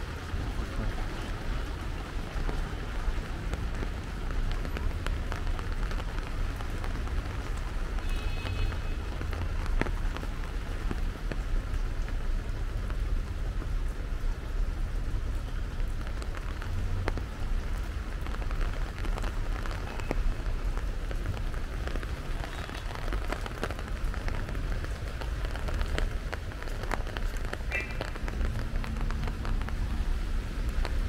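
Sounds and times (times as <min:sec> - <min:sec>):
heavy rain on paving and canopies: 0:00.0 - 0:31.0
rain drops ticking close by: 0:00.0 - 0:31.0.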